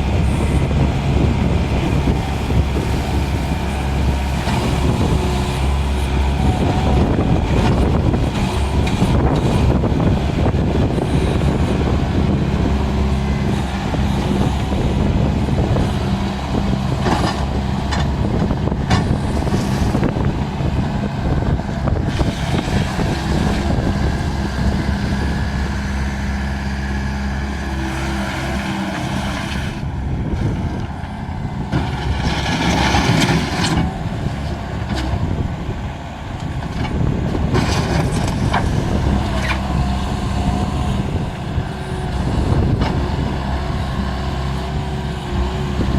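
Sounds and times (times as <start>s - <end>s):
skid steer diesel engine running: 0.0s - 45.9s.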